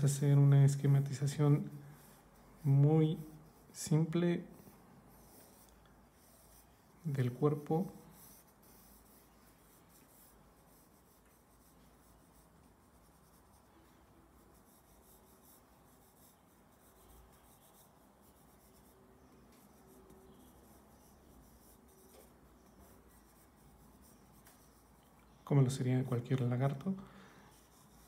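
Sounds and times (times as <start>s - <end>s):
pencil scratching on paper: 0.0s - 25.4s, 26.4s - 28.0s.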